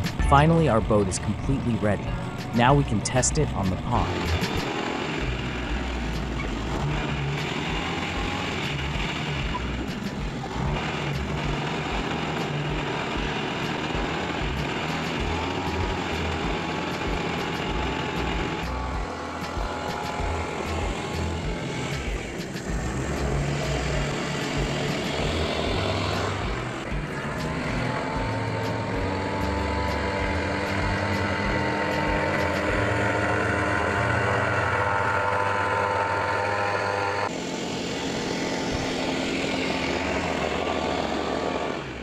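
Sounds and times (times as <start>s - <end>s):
small boat engine running: 0.0s - 42.0s.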